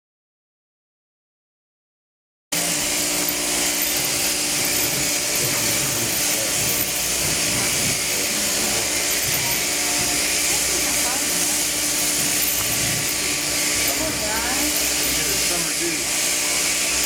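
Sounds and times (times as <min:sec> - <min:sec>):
machine whirring and humming: 0:02.6 - 0:17.0.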